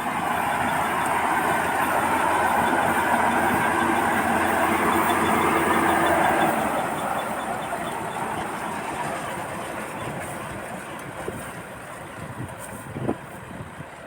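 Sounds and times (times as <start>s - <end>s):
combine harvester drone: 0.0s - 14.0s.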